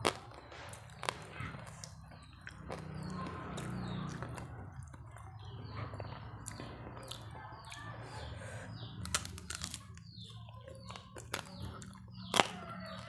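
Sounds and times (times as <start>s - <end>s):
chewing crispy food: 0.0s - 13.0s.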